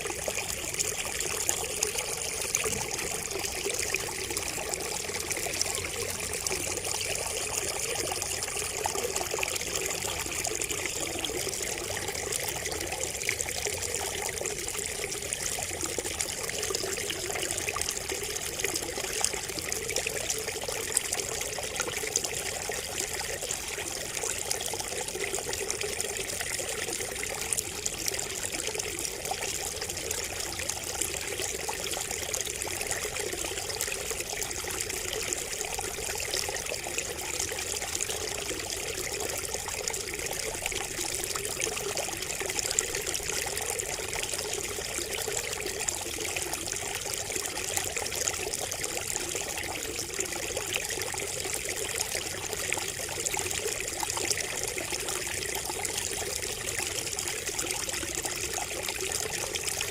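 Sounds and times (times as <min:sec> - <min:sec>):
water trickling from spout: 0:00.0 - 0:59.9.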